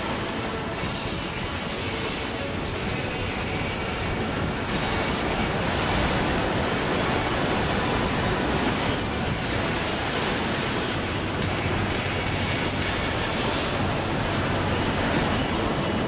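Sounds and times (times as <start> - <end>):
surf washing over rocks: 0.0 - 16.0.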